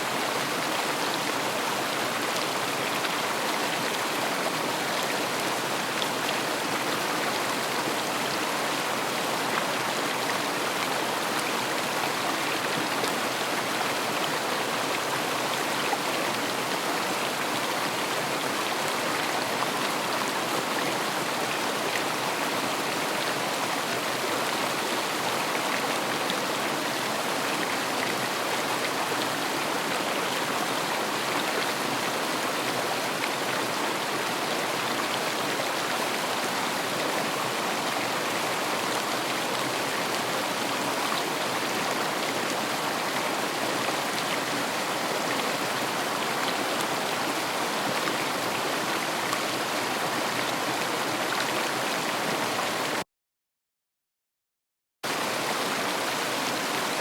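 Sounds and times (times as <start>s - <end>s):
river water flowing: 0.0s - 53.0s, 55.1s - 57.0s.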